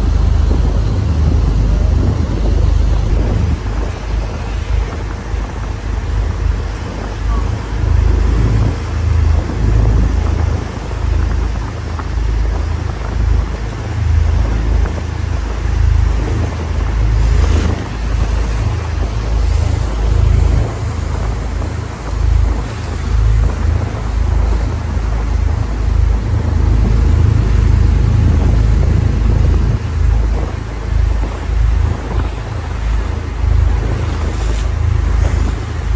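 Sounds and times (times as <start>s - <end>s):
boat motor: 0.0s - 35.9s
water rushing: 0.0s - 35.9s
wind buffeting microphone: 0.0s - 35.9s.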